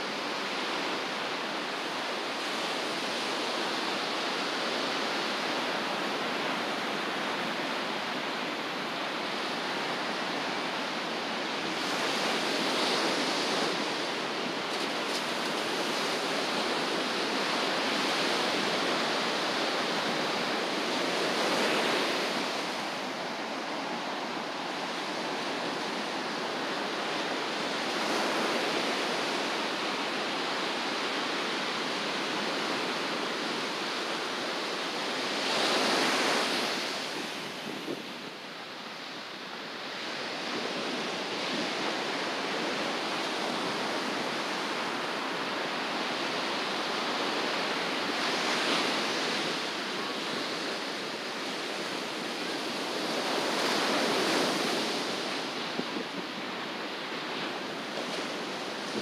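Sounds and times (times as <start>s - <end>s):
ocean surf washing: 0.0s - 59.0s.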